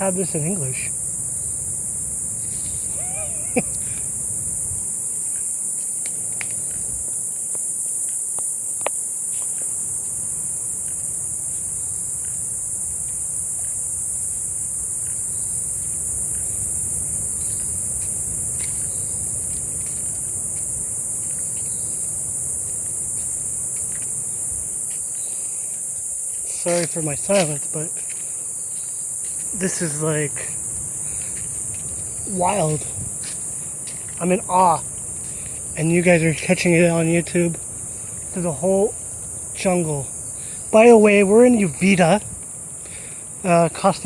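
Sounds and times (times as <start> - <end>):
jungle insects droning: 0.0 - 44.0
footsteps on trail: 2.4 - 43.2.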